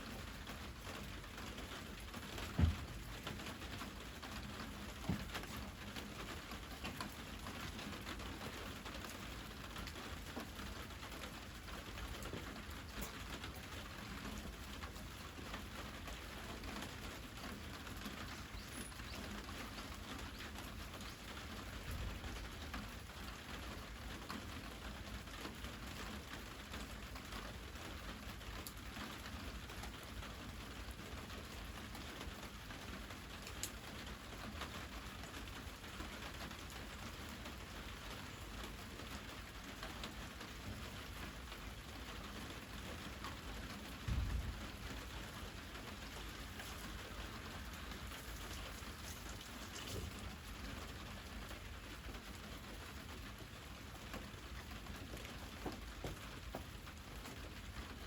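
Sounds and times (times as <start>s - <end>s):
patter of small crackles and ticks: 0.0s - 58.0s.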